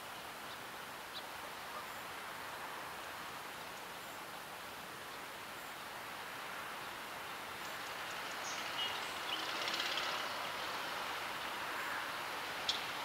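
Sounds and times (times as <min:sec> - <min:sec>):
harbour shore background noise: 0:00.0 - 0:13.0.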